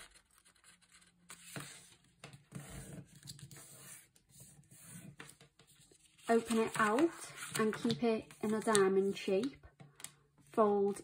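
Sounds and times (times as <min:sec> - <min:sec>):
paper rustling and scraping: 0:00.0 - 0:09.2.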